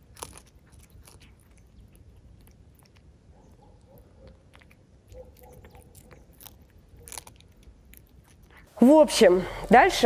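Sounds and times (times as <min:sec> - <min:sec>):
cat crunching bites: 0:00.0 - 0:08.7.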